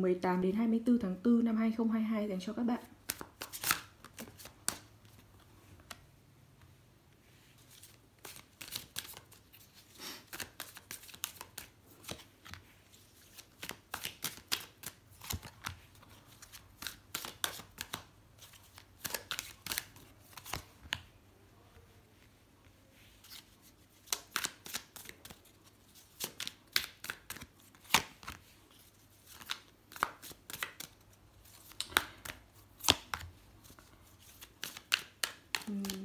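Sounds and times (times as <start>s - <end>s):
cards being shuffled and dealt: 3.0s - 6.1s, 7.6s - 21.1s, 23.0s - 36.0s.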